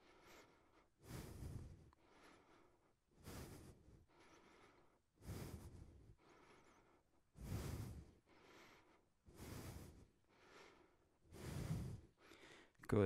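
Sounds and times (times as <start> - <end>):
man breathing hard: 0.0 - 12.8.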